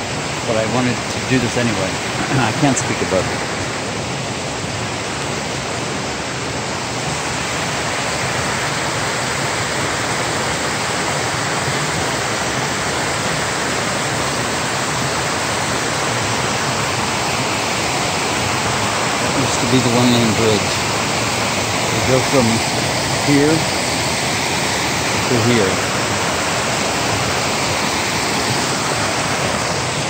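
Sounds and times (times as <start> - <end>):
whitewater rushing: 0.0 - 30.0.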